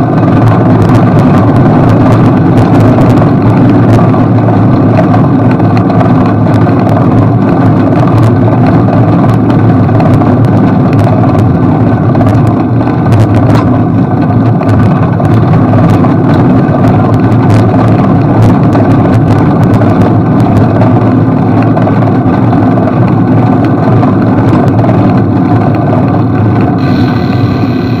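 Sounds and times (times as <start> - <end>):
wind and road rumble: 0.0 - 28.0.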